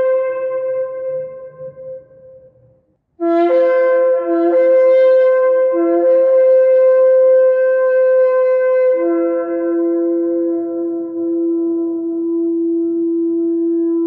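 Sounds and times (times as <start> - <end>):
shofar blast: 0.0 - 2.4, 3.2 - 14.0.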